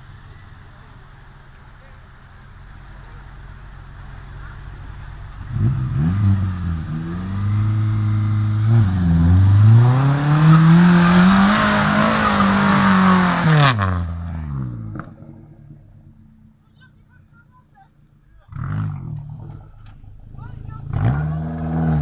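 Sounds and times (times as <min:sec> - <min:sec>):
off-road vehicle engine revving: 0:00.0 - 0:16.3, 0:18.0 - 0:22.0.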